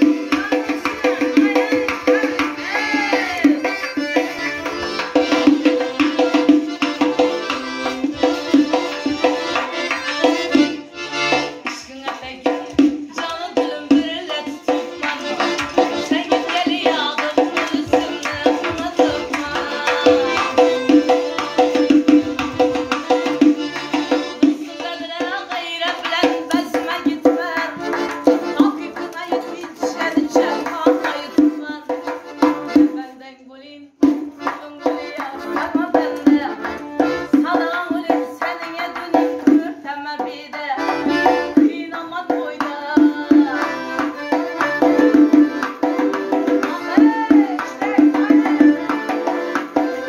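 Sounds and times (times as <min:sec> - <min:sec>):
hand drum rhythm: 0:00.0 - 0:33.1, 0:34.0 - 0:50.0
accordion melody: 0:00.0 - 0:50.0.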